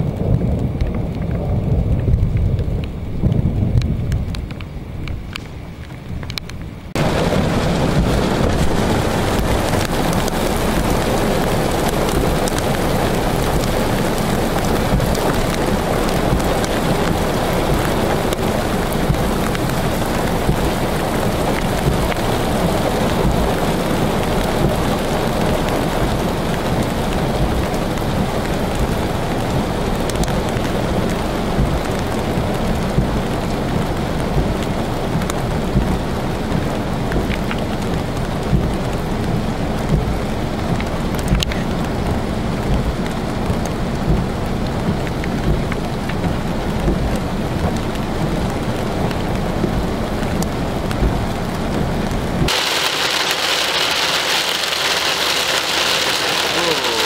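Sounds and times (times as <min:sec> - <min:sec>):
heavy rain on car: 0:00.0 - 0:57.0
sharp raindrop ticks: 0:00.0 - 0:57.0.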